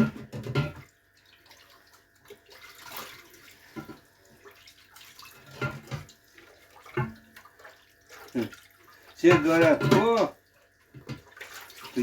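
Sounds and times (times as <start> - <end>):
water splashing and swishing: 0.8 - 12.0.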